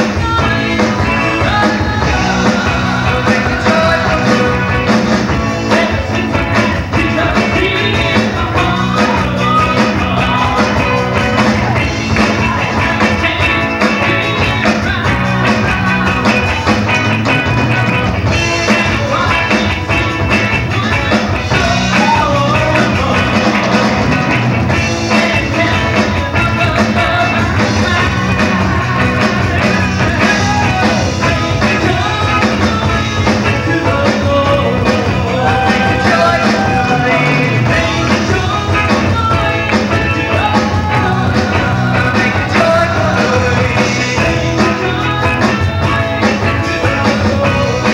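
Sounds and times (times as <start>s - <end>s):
rock band playing: 0.0s - 47.9s.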